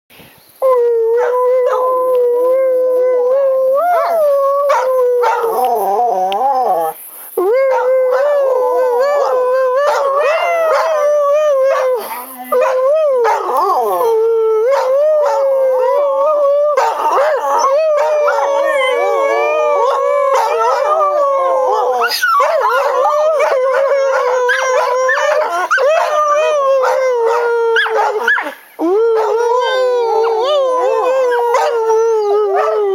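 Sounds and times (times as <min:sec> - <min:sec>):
dogs howling in chorus: 0:03.2 - 0:06.9, 0:07.6 - 0:32.9.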